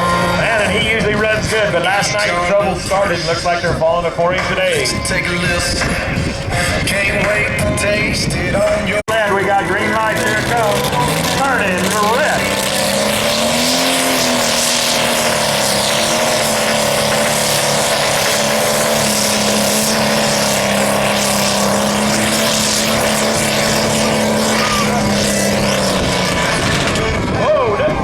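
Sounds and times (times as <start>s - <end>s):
tractor engine running hard: 0.0s - 28.0s.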